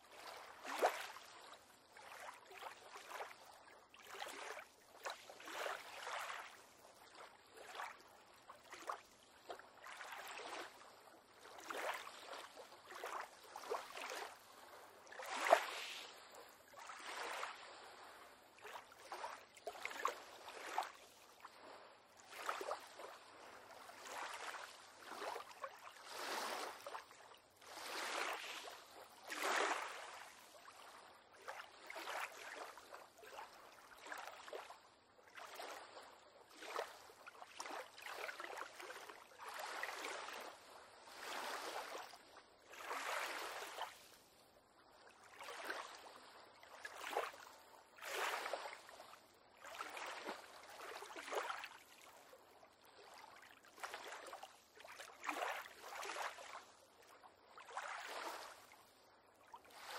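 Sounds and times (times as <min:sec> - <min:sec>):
waves lapping against a pier: 0:00.0 - 0:59.9.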